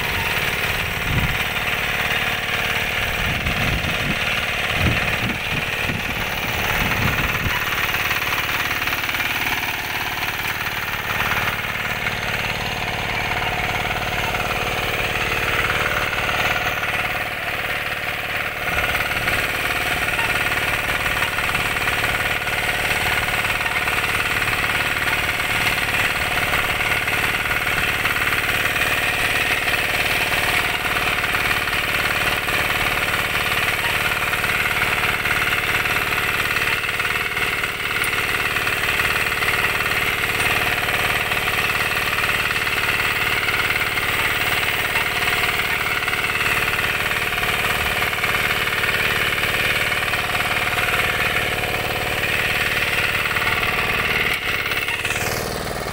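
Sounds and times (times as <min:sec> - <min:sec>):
power tiller engine running: 0:00.0 - 0:55.9.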